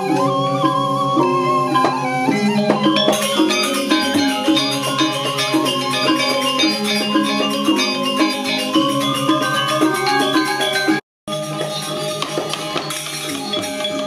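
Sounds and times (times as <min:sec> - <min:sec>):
gamelan metallophones ringing: 0:02.5 - 0:14.0.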